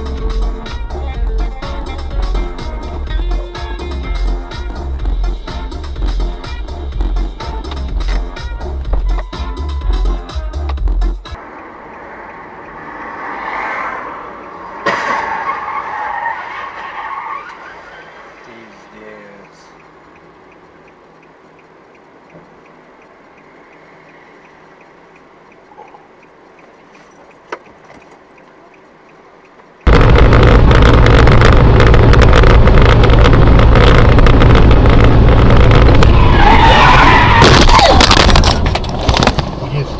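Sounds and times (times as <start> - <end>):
loud distorted car noise: 0.0 - 25.5, 29.6 - 39.9.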